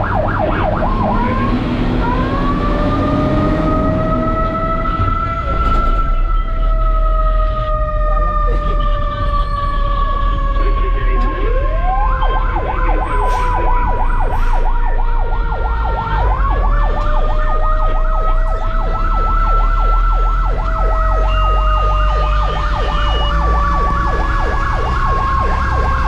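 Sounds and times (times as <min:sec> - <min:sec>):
engine rumbling: 0:00.0 - 0:26.0
fire engine siren yelp: 0:00.0 - 0:26.0
steady siren tone: 0:00.0 - 0:26.0.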